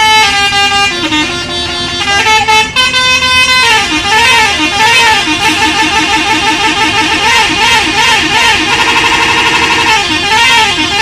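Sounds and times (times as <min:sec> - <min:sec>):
bus musical air horn: 0:00.0 - 0:11.0.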